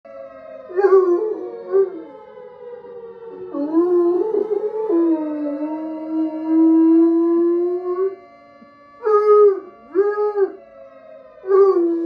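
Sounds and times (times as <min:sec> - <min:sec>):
siren wailing through phone speaker: 0:00.1 - 0:08.3, 0:09.0 - 0:12.0
dog howling: 0:00.6 - 0:08.2, 0:09.0 - 0:10.6, 0:11.4 - 0:12.0.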